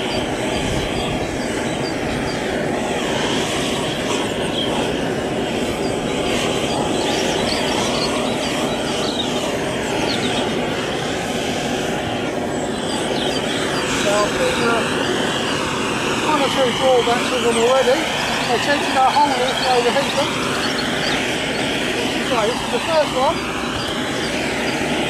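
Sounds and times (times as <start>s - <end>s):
gas blowtorch burning: 0.0s - 25.0s.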